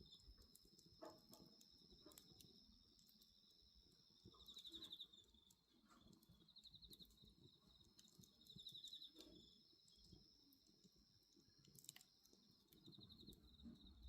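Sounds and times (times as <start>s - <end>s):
bonfire crackling: 0.0s - 14.0s
insect pulsed trills: 0.0s - 14.0s.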